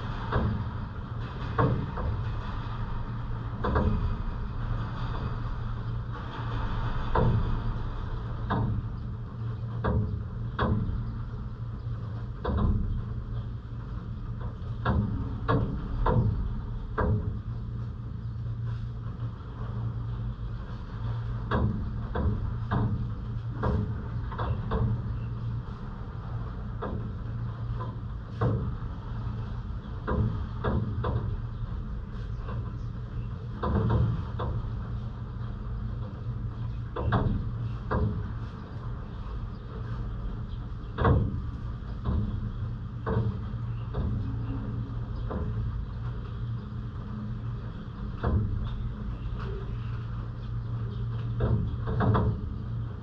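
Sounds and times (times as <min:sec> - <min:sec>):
low city rumble: 0:00.0 - 0:53.0.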